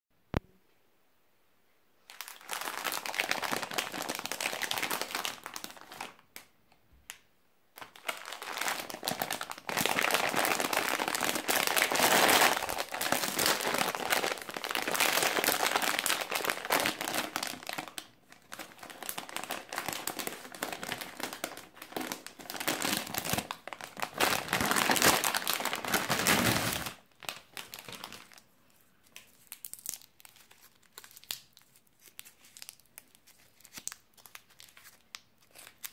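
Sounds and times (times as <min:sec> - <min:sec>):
plastic sweet bag crinkling: 0:02.0 - 0:06.5, 0:07.1 - 0:35.9
sweet wrapper crinkling: 0:02.0 - 0:06.5, 0:07.1 - 0:35.9.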